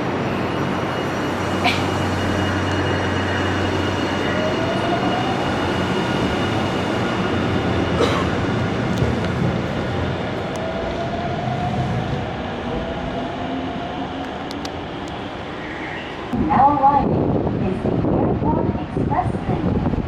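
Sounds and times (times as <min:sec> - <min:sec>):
train rolling noise: 0:00.0 - 0:20.0.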